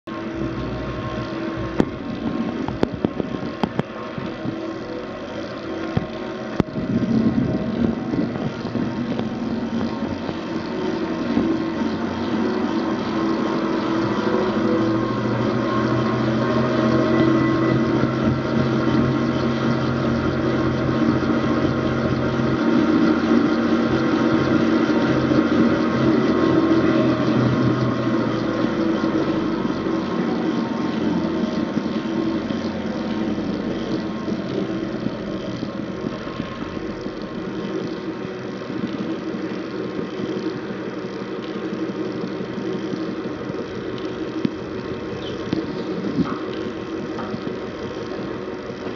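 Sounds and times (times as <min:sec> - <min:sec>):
mixing tank humming: 0:00.0 - 0:48.9.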